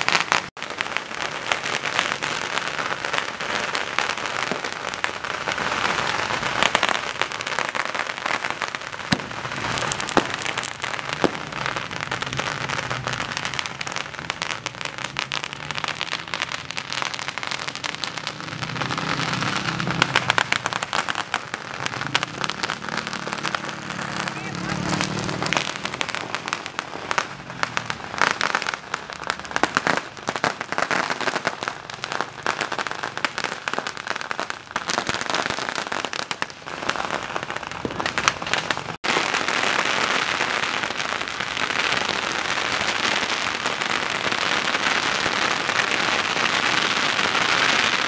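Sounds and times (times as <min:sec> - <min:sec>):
firecrackers crackling: 0:00.0 - 0:48.0
loud single firecracker bangs: 0:00.0 - 0:48.0.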